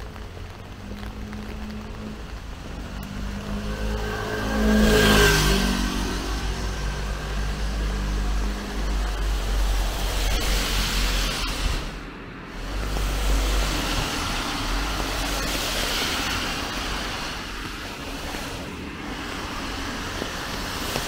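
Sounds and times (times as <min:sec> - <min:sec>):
low traffic rumble: 0:00.0 - 0:21.0
tyres hissing on wet road: 0:00.0 - 0:21.0
vehicle passing on wet road: 0:00.0 - 0:21.0.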